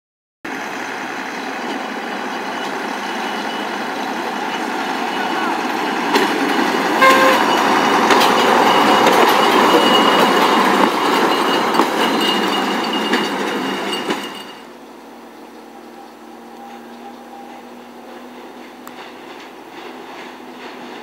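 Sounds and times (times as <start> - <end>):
rail car engine and wheels: 0.4 - 21.0
high-pitched wheel squeal: 1.6 - 14.7, 15.3 - 20.7.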